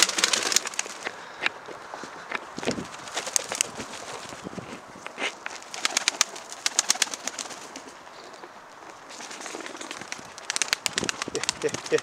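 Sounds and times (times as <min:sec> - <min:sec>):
pigeons pecking at grain: 0:00.0 - 0:01.6, 0:02.2 - 0:04.4, 0:05.2 - 0:12.0.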